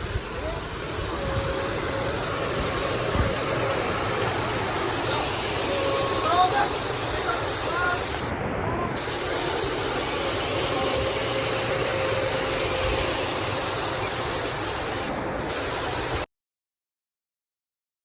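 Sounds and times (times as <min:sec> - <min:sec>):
rush of falling water: 0:00.0 - 0:08.3, 0:08.9 - 0:16.3.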